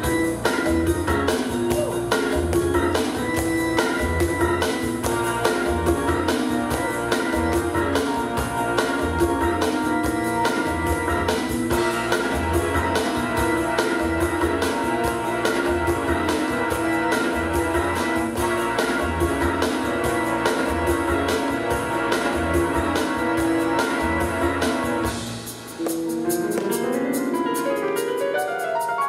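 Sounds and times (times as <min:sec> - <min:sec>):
pop backing track: 0:00.0 - 0:29.0.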